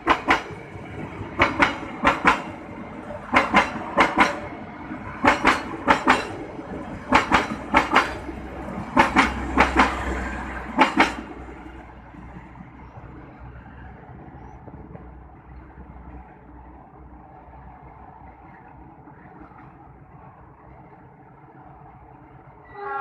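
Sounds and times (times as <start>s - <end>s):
low train rumble: 0.0s - 23.0s.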